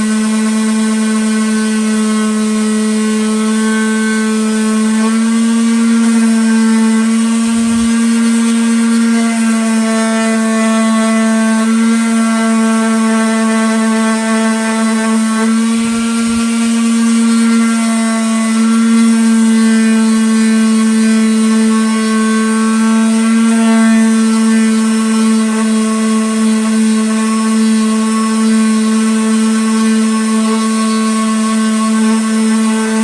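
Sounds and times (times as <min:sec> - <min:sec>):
electric power sander running: 0:00.0 - 0:33.0.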